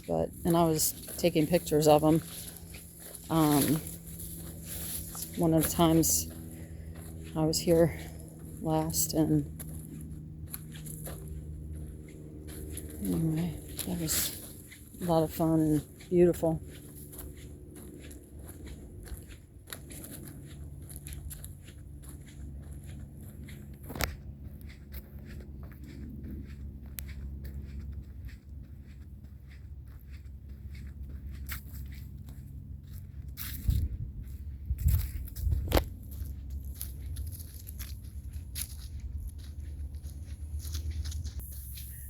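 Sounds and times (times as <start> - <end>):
footsteps crunching on a trail: 0.0 - 42.0
low steady rumble: 0.0 - 42.0.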